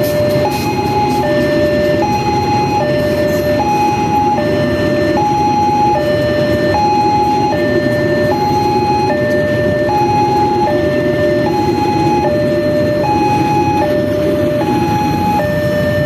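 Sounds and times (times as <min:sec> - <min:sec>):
train rumbling past on rails: 0:00.0 - 0:16.0
two-tone crossing alarm: 0:00.0 - 0:16.0.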